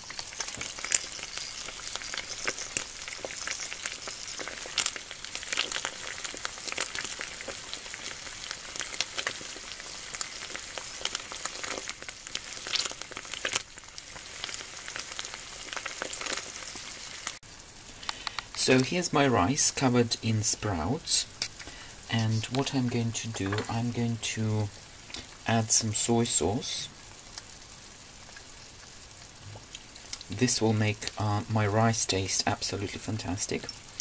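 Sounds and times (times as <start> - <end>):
fish frying in hot oil: 0.0 - 34.0.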